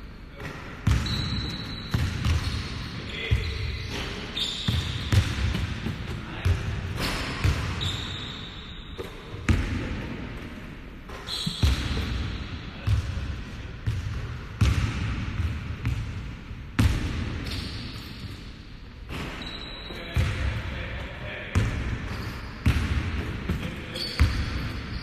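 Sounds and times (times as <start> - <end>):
basketballs bouncing on gym floor: 0.3 - 18.3, 19.1 - 25.0.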